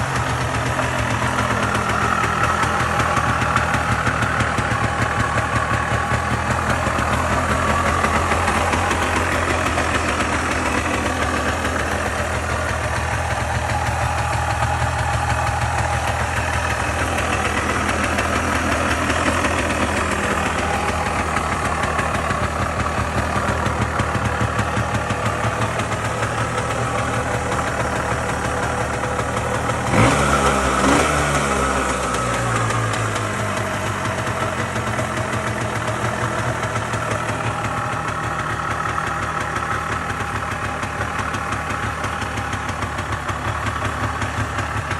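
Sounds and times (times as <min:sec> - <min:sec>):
two-stroke motorcycle engine idling: 0:00.0 - 0:44.9.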